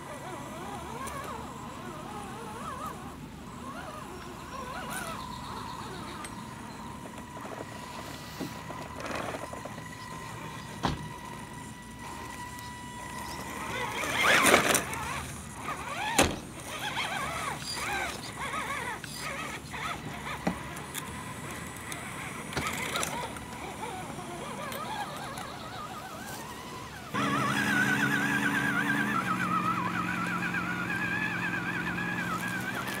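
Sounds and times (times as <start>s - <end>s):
outdoor ambience: 0.0s - 33.0s.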